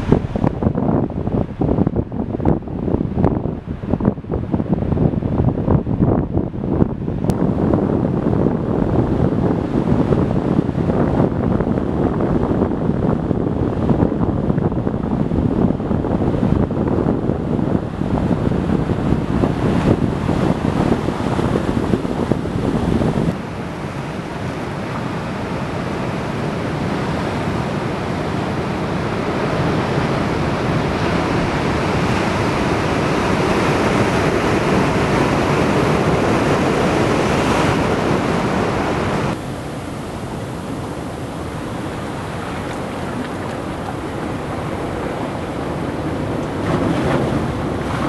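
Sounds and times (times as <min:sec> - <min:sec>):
ocean surf washing over sand: 0:00.0 - 0:48.0.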